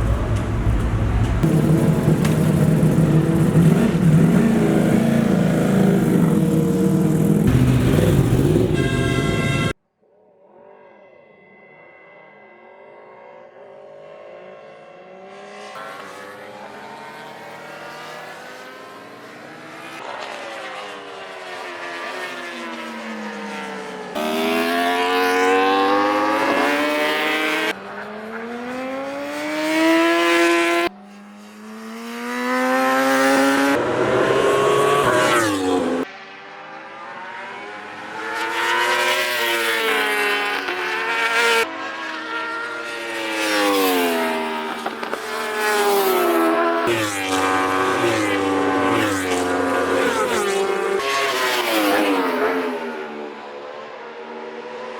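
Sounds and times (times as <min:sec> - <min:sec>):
racing motorcycle engines passing: 0:00.0 - 0:09.7, 0:13.8 - 0:54.9.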